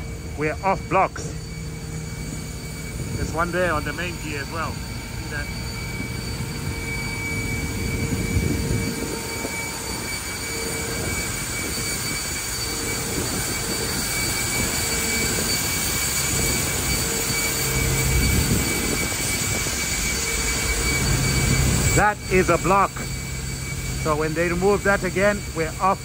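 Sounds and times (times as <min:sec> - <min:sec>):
air conditioning rush: 0:00.0 - 0:26.0
steady whining tones: 0:00.0 - 0:26.0.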